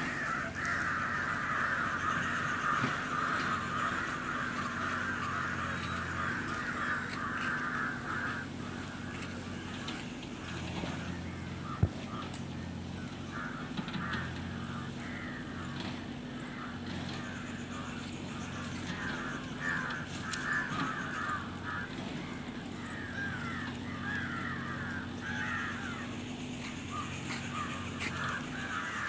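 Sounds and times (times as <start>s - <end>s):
birds calling: 0.0s - 29.0s
steady low hum: 0.0s - 29.0s.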